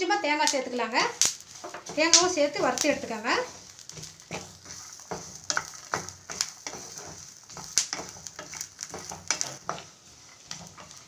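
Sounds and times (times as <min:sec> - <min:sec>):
wooden spatula scraping a pan: 0:00.1 - 0:11.0.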